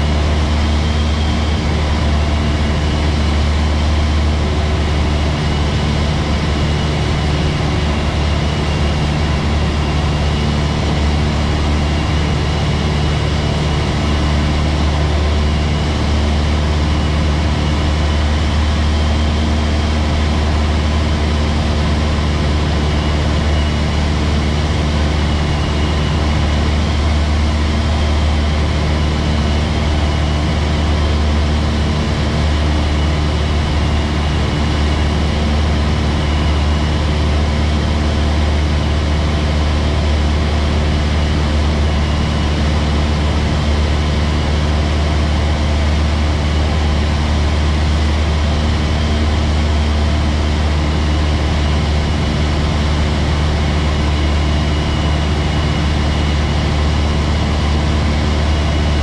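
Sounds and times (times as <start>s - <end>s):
airplane engine drone in cabin: 0.0s - 59.0s.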